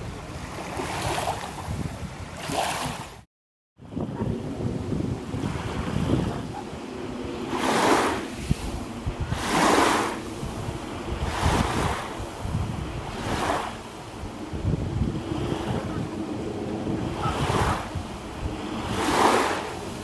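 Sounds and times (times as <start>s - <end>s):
small waves washing on shore: 0.0s - 20.0s
wind rumble on microphone: 0.0s - 20.0s.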